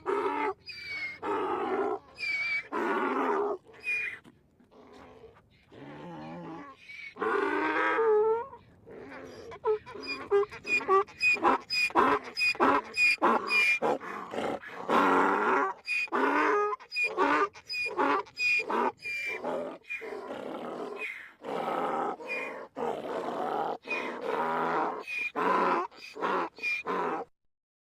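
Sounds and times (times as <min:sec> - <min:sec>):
donkey braying: 0:00.0 - 0:27.3.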